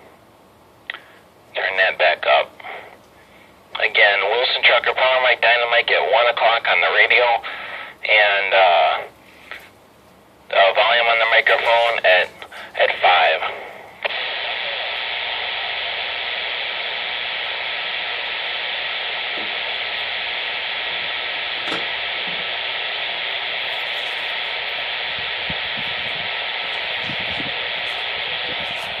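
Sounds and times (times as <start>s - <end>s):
radio static hiss: 0.8s - 29.0s.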